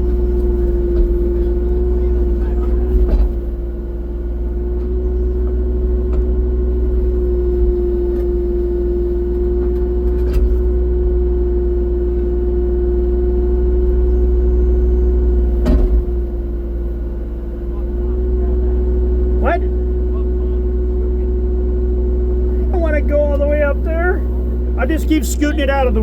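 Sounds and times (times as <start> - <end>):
excavator engine droning: 0.0 - 26.0.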